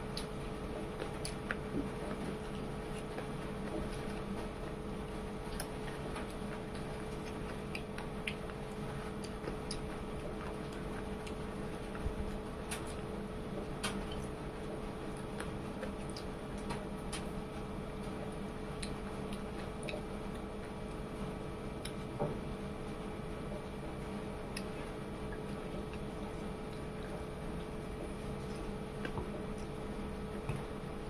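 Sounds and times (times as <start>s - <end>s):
low background hum: 0.0s - 31.0s
chewing: 0.1s - 13.1s, 13.7s - 17.3s, 18.3s - 21.0s, 24.5s - 30.7s.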